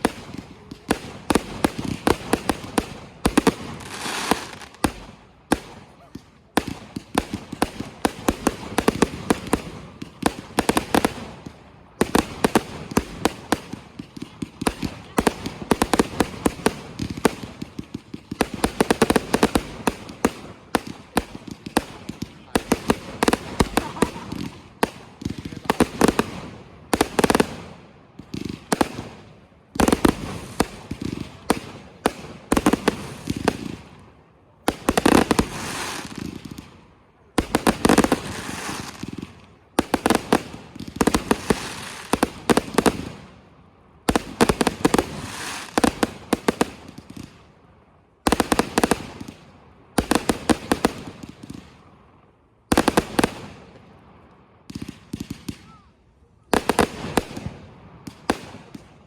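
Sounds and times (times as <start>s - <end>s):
fireworks bangs: 0.0s - 47.4s, 48.2s - 51.8s, 56.5s - 59.0s.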